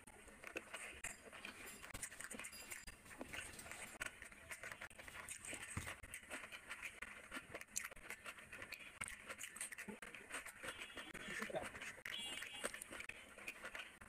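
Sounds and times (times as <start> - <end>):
wet chewing and mouth smacking: 0.0 - 14.0.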